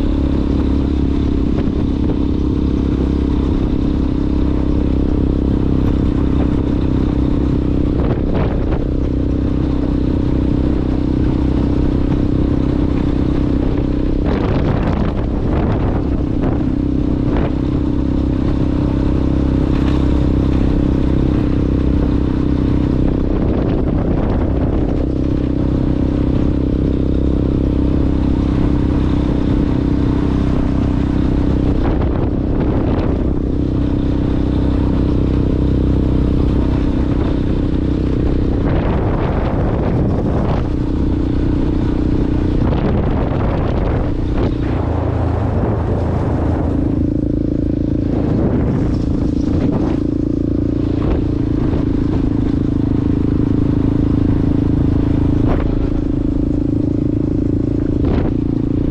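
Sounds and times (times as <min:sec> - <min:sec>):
motorcycle engine revving off-road: 0:00.0 - 0:58.9.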